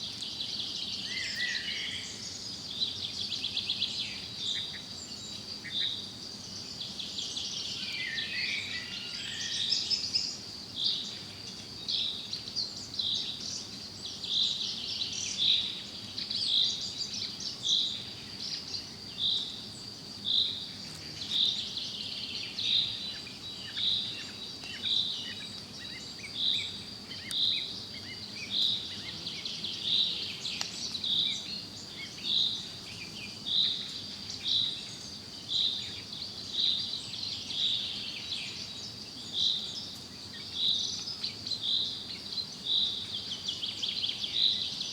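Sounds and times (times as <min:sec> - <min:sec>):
birdsong: 0:00.0 - 0:44.9
insect drone: 0:00.0 - 0:44.9.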